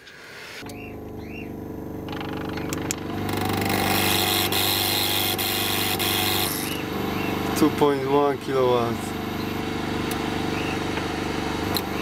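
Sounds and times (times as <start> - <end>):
petrol generator engine running: 0.6 - 12.0.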